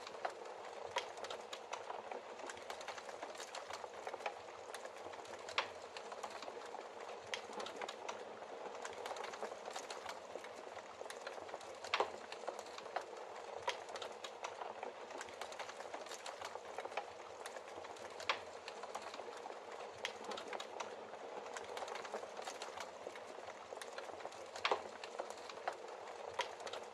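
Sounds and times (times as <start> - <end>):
fire crackling: 0.0 - 26.9.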